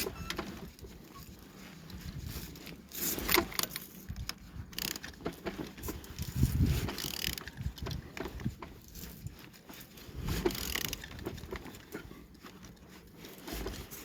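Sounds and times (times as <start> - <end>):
wrench and engine clicks and clanks: 0.0 - 14.0.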